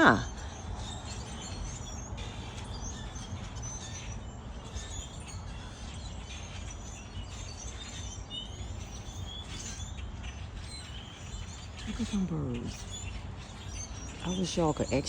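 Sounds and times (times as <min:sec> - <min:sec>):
flock of birds chirping: 0:00.0 - 0:15.0.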